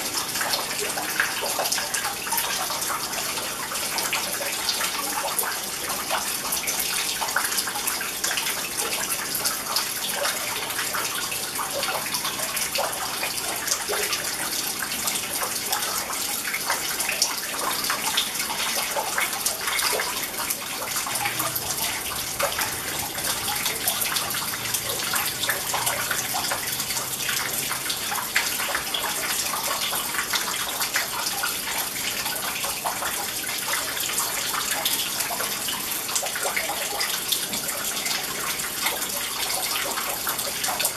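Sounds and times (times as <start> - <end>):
fountain water splashing into pool: 0.0 - 40.9.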